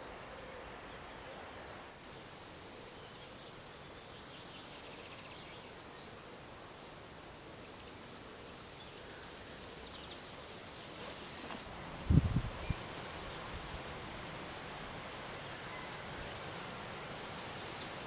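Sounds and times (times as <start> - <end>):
breeze rustling trees: 0.0 - 18.0.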